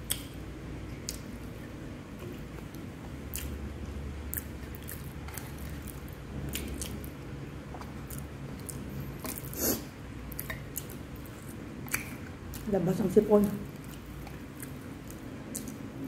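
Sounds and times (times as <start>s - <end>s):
chewing with wet mouth clicks: 0.0s - 0.4s, 1.0s - 9.5s, 10.3s - 12.7s, 13.4s - 15.9s.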